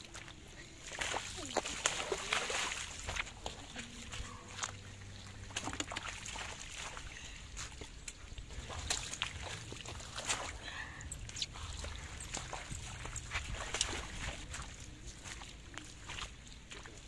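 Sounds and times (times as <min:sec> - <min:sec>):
splashing in shallow water: 0:00.0 - 0:17.0.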